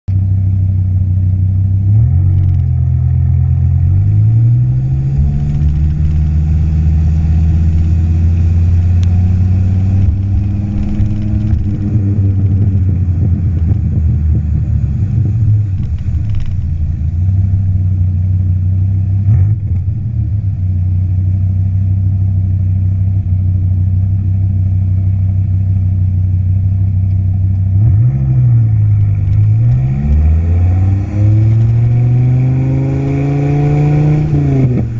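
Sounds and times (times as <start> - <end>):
sports car engine idling and revving: 0.1 - 34.9.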